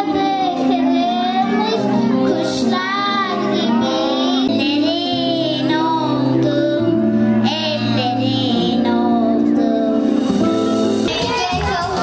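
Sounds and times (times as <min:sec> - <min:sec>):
girl singing into a microphone: 0:00.0 - 0:12.0
instrumental accompaniment: 0:00.0 - 0:12.0.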